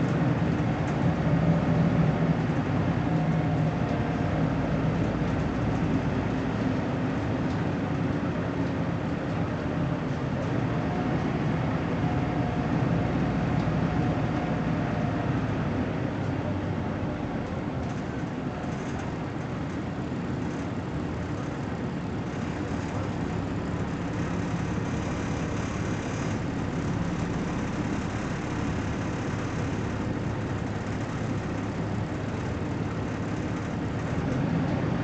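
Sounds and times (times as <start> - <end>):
bus engine drone: 0.0 - 35.0
road noise: 0.0 - 35.0.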